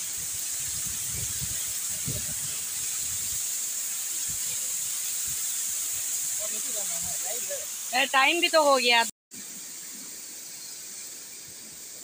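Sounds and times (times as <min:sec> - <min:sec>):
water jetting and splashing: 0:00.0 - 0:12.0.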